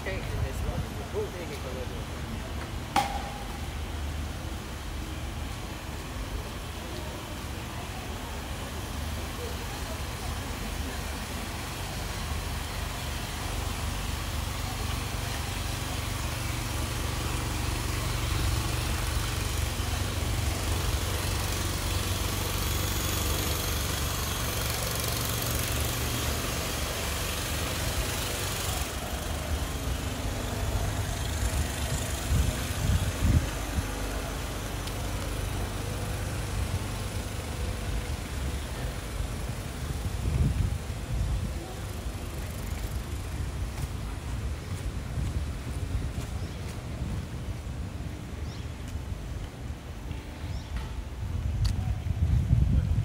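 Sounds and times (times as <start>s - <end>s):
vehicle engine idling: 0.0s - 52.8s.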